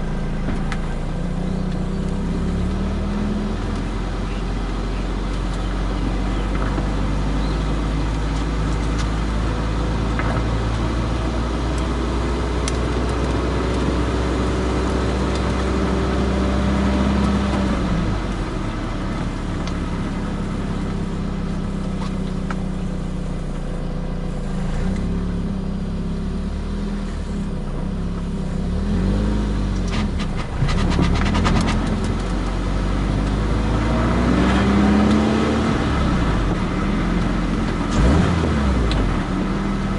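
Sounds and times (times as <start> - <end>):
car engine hum: 0.0 - 39.9
road and tyre noise: 0.0 - 39.9.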